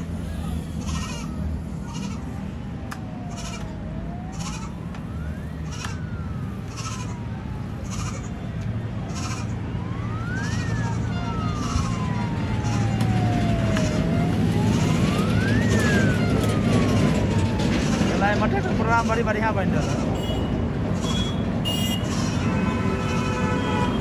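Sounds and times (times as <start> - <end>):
low rumble of traffic: 0.0 - 24.0
siren wailing: 0.0 - 24.0.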